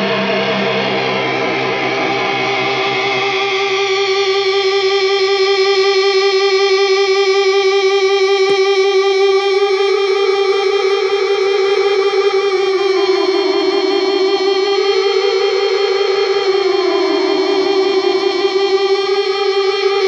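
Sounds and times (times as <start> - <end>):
electric guitar drone: 0.0 - 20.0.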